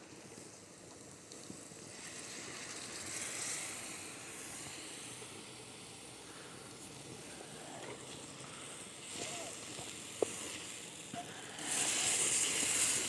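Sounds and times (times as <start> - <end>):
food sizzling in hot fat: 0.0 - 13.0.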